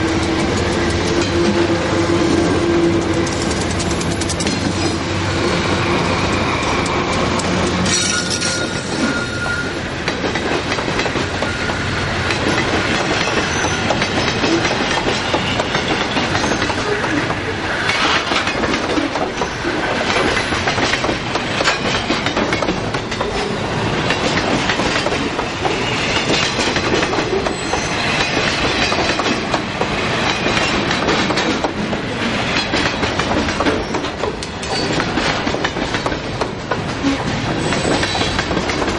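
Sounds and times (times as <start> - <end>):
diesel locomotive engine: 0.0 - 38.9
freight train rumble: 0.0 - 38.9
wheels clacking over rails: 0.0 - 38.9.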